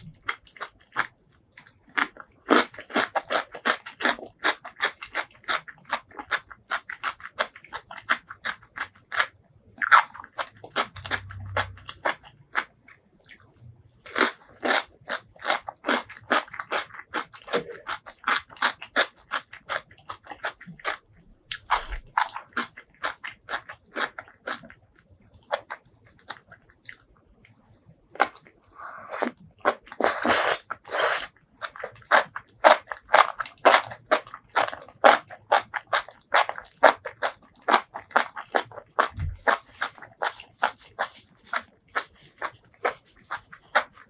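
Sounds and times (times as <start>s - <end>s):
chewing and crunching food: 0.0s - 44.0s.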